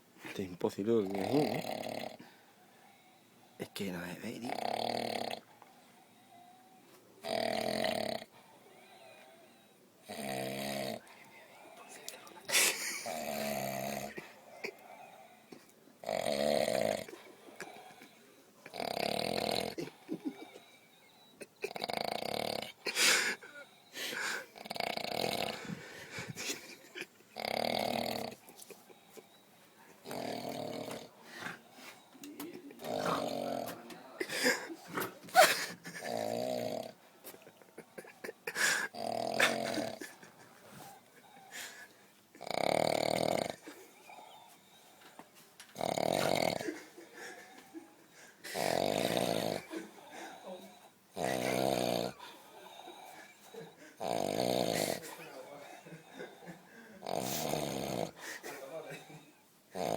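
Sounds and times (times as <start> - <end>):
person snoring heavily: 1.0 - 2.3, 3.5 - 5.5, 7.2 - 11.1, 12.5 - 29.4, 30.0 - 32.0, 32.6 - 44.6, 45.8 - 58.4.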